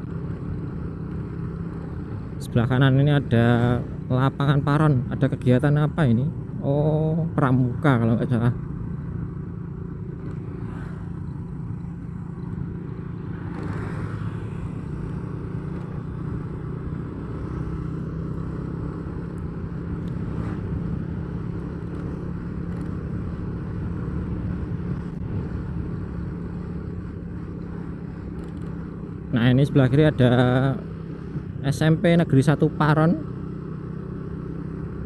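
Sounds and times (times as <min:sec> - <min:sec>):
road noise: 0:00.0 - 0:35.0
vehicle engine drone: 0:00.0 - 0:35.0.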